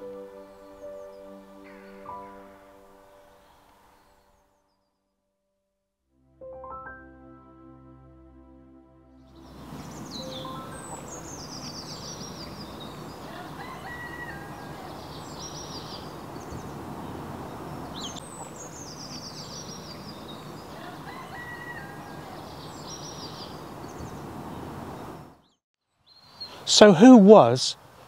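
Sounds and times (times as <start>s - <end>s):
outdoor background hiss: 0.0s - 4.5s, 9.4s - 28.0s
songbird singing: 0.0s - 5.1s, 9.2s - 28.0s.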